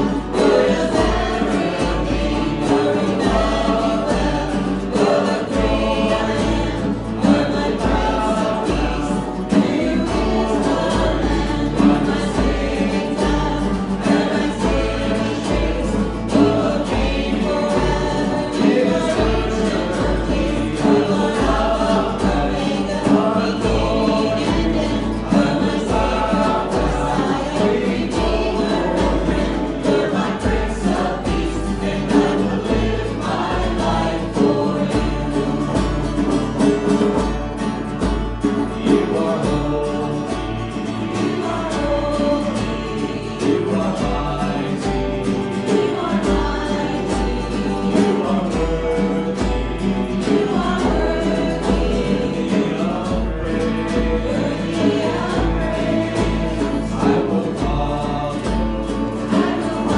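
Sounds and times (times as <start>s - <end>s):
congregation singing: 0.0s - 59.9s
worship band playing: 0.0s - 59.9s.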